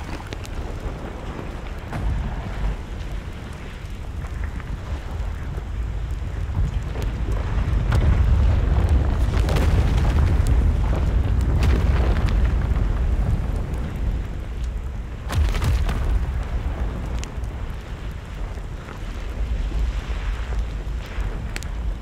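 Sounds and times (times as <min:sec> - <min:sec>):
deep lava rumble: 0:00.0 - 0:22.0
lava cracks and pops: 0:00.0 - 0:22.0.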